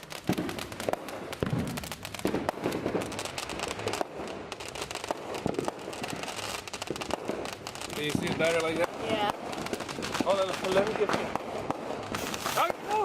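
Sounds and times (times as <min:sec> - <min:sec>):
fireworks popping and booming: 0:00.0 - 0:13.0.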